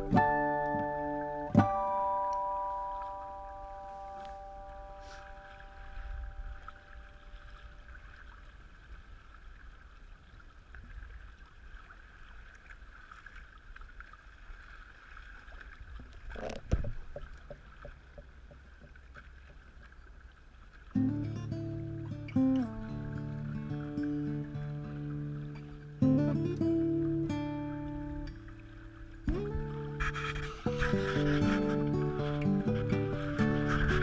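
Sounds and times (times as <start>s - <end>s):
water washing along kayak hull: 0.0s - 34.0s.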